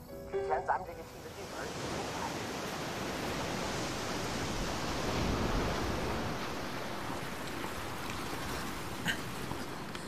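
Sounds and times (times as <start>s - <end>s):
surf washing over rocks: 1.1s - 10.0s.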